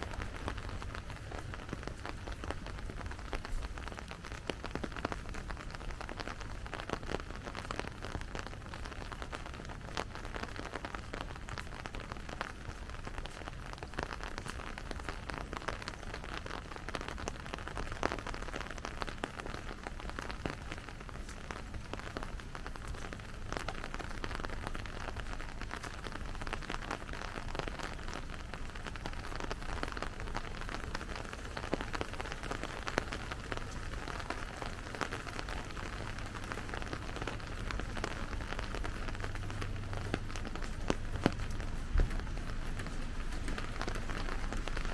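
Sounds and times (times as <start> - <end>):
rain falling on street: 0.0 - 44.9.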